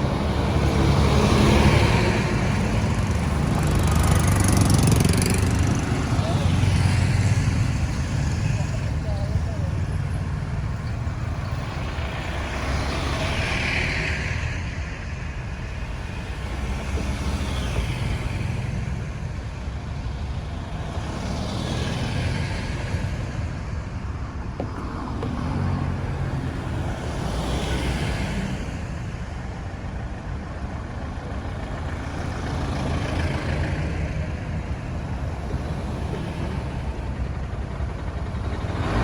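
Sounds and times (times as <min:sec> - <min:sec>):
traffic engine rumble: 0:00.0 - 0:39.0
vehicles passing: 0:00.0 - 0:39.0.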